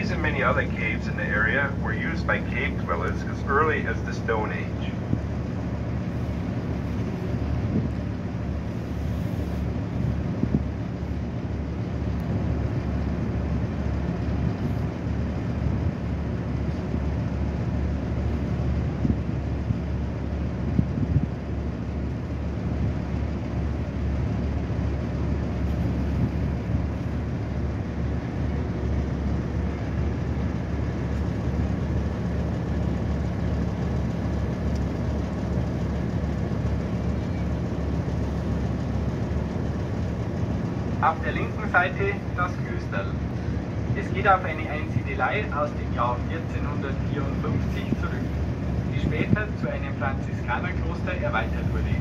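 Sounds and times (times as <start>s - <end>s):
boat engine humming: 0.0s - 52.0s
water and air noise: 0.0s - 52.0s.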